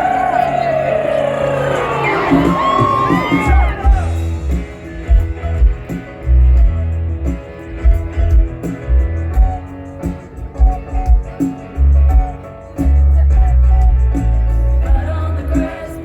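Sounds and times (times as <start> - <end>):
guitar: 0.0 - 16.0
heavy bass and drum beat: 1.6 - 16.0.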